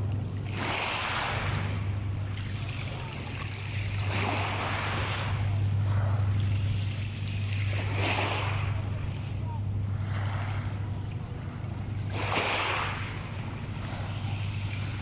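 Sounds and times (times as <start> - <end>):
waves washing over pebbles: 0.0 - 9.2, 9.8 - 15.0
steady low hum: 0.0 - 15.0.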